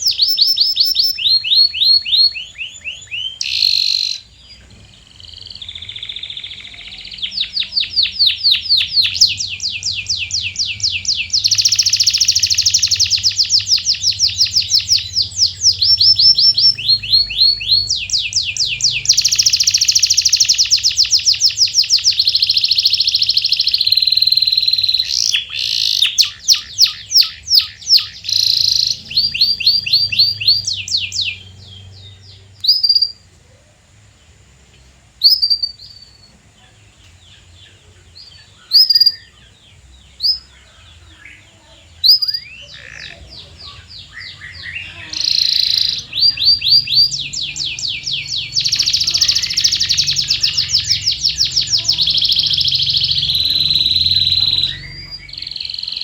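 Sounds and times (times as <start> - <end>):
canary trilling: 0.0 - 33.3, 35.2 - 56.0
sharp canary chirps: 0.0 - 56.0.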